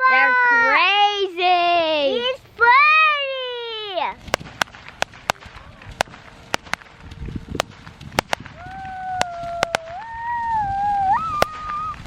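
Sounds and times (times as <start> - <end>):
fireworks popping: 2.0 - 12.0.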